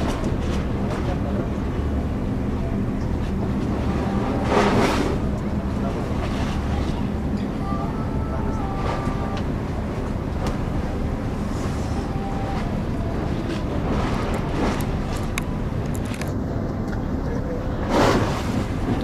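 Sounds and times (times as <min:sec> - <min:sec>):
low harbour rumble: 0:00.0 - 0:19.0.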